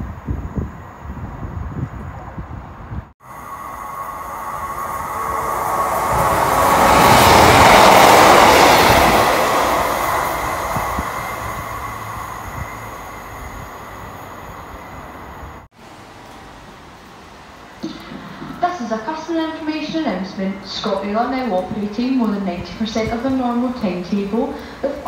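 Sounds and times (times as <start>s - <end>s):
passenger train passing: 0.1s - 25.0s.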